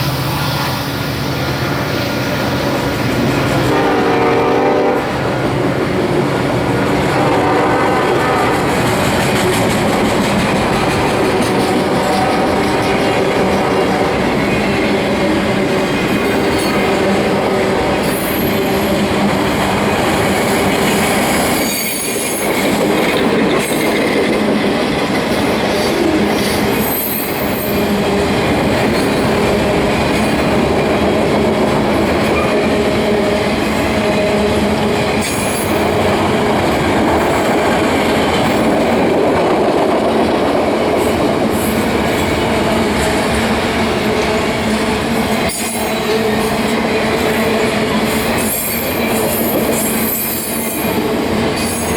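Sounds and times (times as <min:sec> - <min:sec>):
train wheels on rails: 0:00.0 - 0:51.9.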